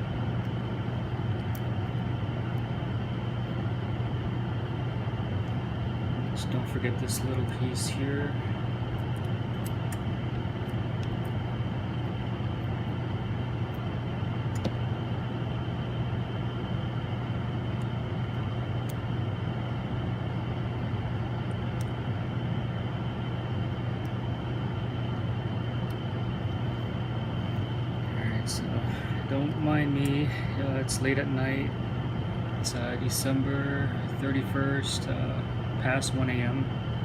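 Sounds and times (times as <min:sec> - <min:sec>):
low machine hum: 0:00.0 - 0:37.0
thin high whine: 0:00.0 - 0:37.0.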